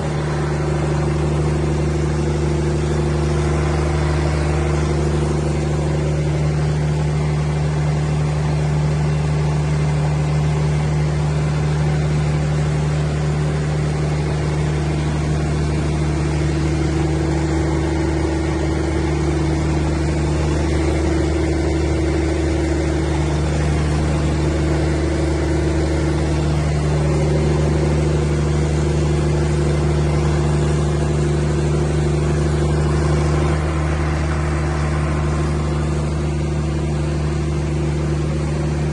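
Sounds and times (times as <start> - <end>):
diesel generator drone: 0.0 - 38.9.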